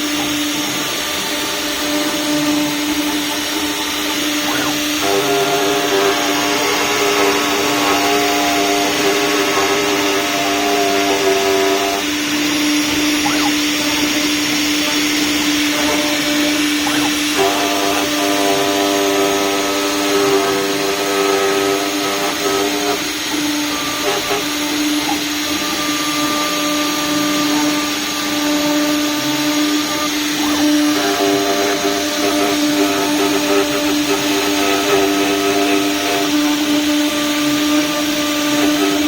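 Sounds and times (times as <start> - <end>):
cnc router whining: 0.0 - 39.0.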